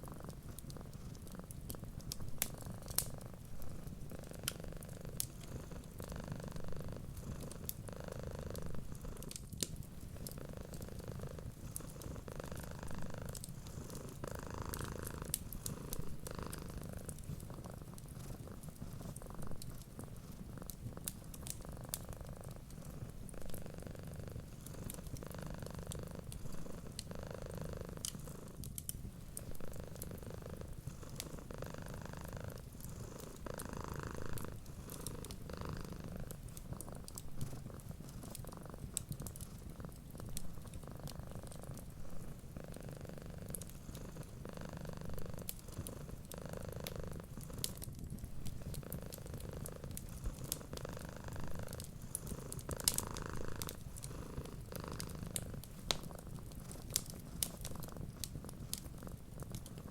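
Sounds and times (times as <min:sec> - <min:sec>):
cat purring: 0:00.0 - 0:59.9
wood fire crackling: 0:00.0 - 0:59.9.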